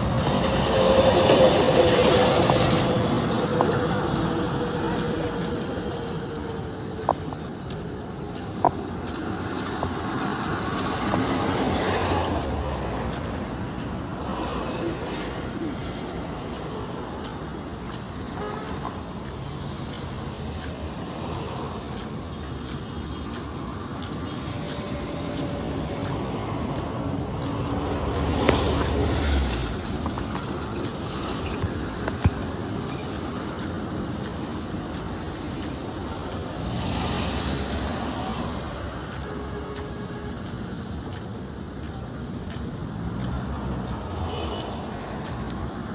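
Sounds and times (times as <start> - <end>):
vehicles passing: 0.0 - 45.9.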